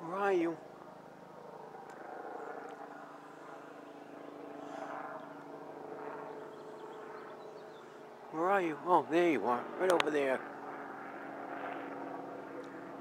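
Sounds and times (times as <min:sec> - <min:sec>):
distant helicopter droning: 0:00.0 - 0:13.0.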